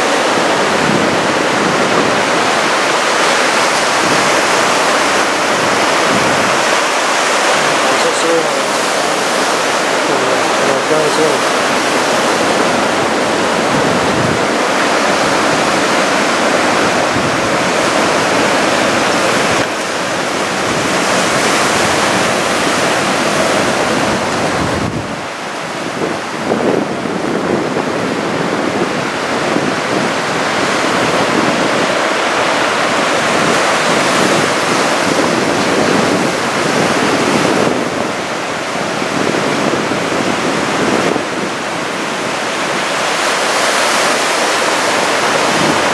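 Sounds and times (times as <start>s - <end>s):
heavy surf breaking: 0.0s - 45.9s
wind buffeting microphone: 0.0s - 45.9s.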